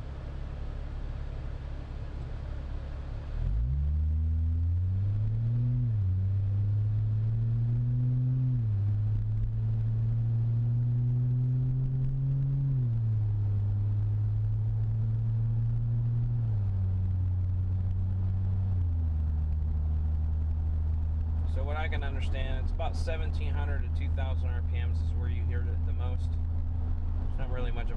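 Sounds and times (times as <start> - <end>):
car exhaust note revving: 0.0 - 27.9.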